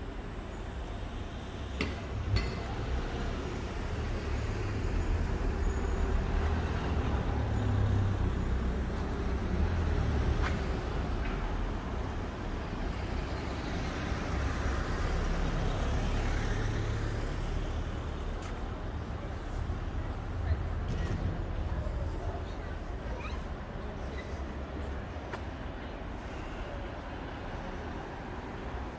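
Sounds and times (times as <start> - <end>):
vehicles driving past: 0.0 - 28.9.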